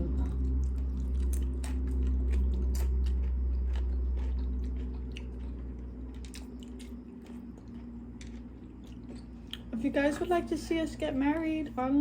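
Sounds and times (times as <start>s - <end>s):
low hum: 0.0s - 12.0s
chewing and biting food: 0.1s - 10.5s.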